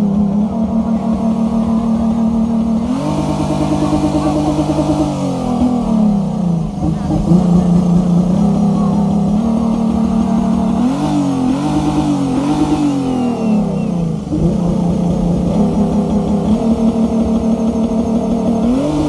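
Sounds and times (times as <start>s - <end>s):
car engine revving high: 0.0s - 19.0s.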